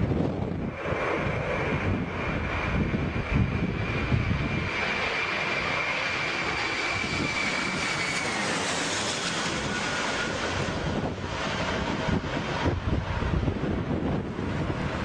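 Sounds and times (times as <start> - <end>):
jet engines whining: 0.0 - 15.0
wind rumbling on microphone: 0.0 - 15.0.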